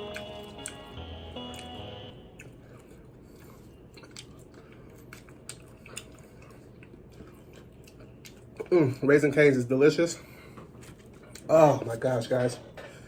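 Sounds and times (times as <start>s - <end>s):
chewing crunchy fried chicken: 0.0s - 9.1s, 10.2s - 12.4s.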